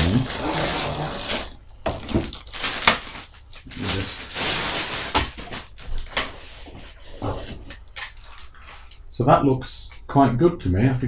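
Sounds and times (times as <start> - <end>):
plastic bag rustling: 0.0 - 9.0.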